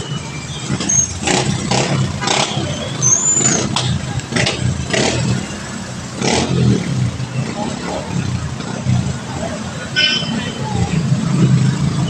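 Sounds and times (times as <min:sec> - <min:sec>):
traffic engine rumble: 0:00.0 - 0:12.0
tyre noise on wet road: 0:00.0 - 0:12.0.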